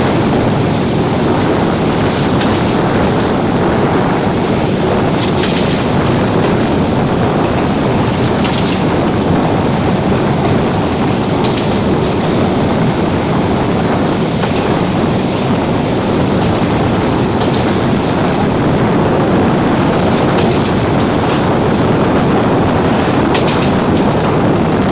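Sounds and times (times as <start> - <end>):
rushing air: 0.0 - 24.9
train rumbling at speed: 0.0 - 24.9.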